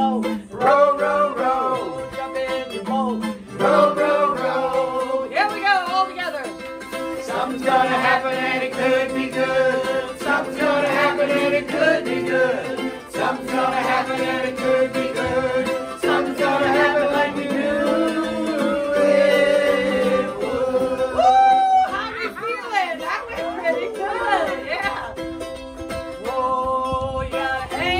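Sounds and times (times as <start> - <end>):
women singing together: 0.0 - 6.1, 7.2 - 22.8, 23.4 - 25.2, 26.2 - 27.9
mandolin: 0.0 - 27.9
strummed ukulele: 0.0 - 27.9.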